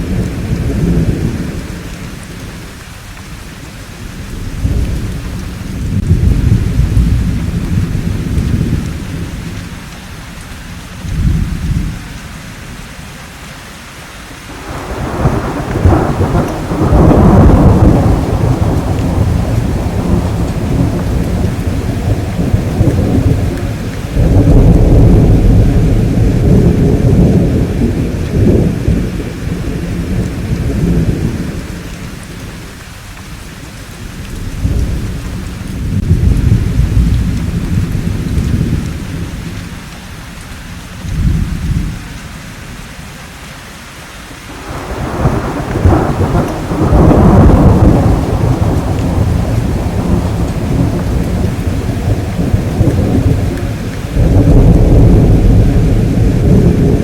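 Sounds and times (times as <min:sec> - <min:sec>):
rolling thunder: 0:00.0 - 0:02.8, 0:03.9 - 0:09.8, 0:14.5 - 0:39.9, 0:41.0 - 0:42.1, 0:44.5 - 0:57.0
steady rain: 0:00.0 - 0:57.0.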